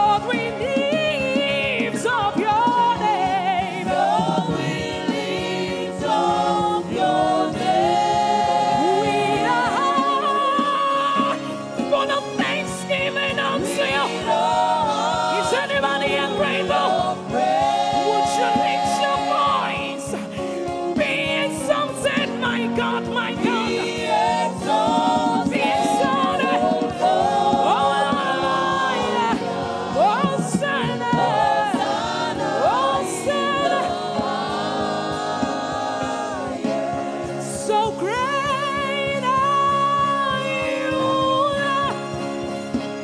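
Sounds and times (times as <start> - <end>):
instrumental backing: 0.0 - 43.0
voices singing gospel: 0.0 - 43.0.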